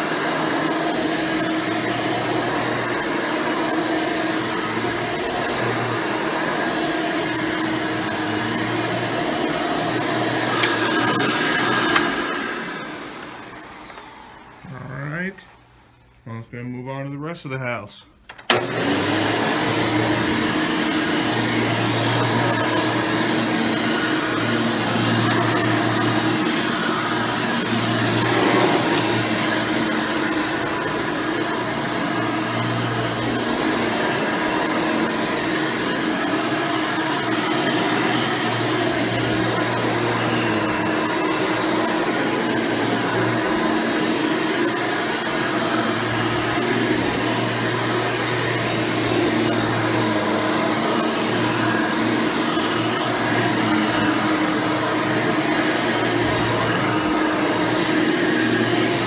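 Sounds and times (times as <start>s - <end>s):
upright vacuum cleaner running: 0.0s - 15.2s, 18.3s - 59.0s.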